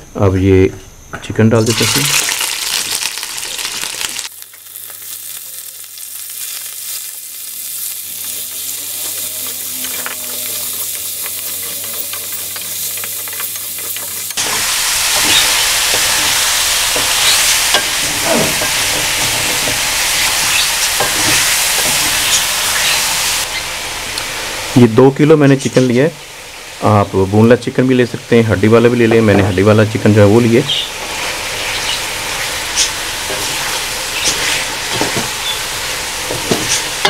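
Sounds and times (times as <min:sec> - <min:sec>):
chicken sizzling in hot oil: 0:01.6 - 0:24.8, 0:29.8 - 0:37.0.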